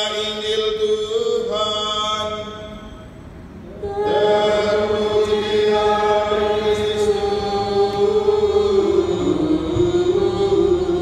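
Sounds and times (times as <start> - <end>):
chanted liturgical singing: 0.0 - 11.0.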